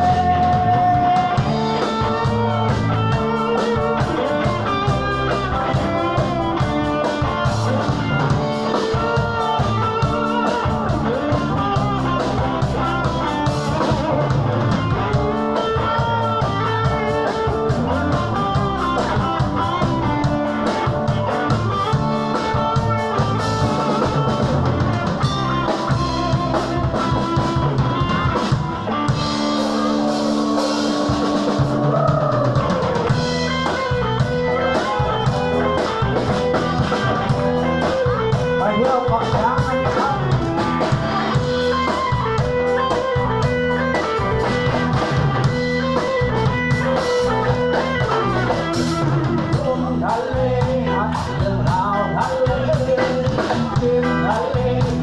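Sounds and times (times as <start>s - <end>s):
rock band playing instrumental: 0.0s - 55.0s.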